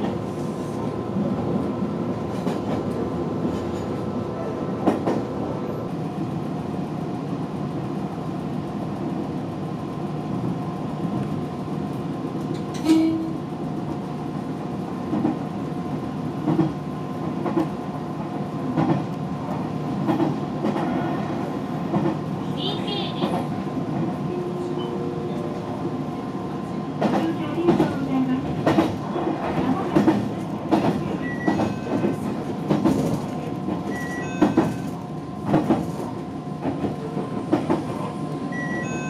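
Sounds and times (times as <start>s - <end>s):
electric train running hum: 0.0s - 39.0s.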